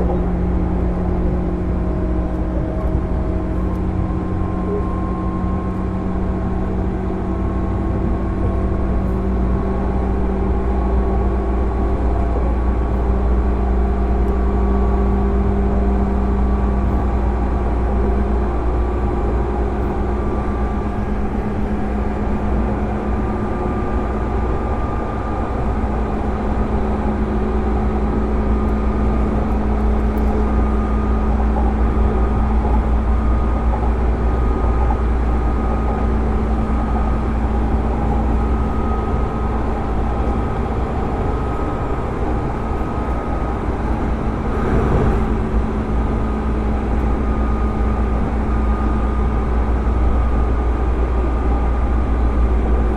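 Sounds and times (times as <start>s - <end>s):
high motor whine: 0.0s - 52.9s
train motors and wheels drone: 0.0s - 52.9s.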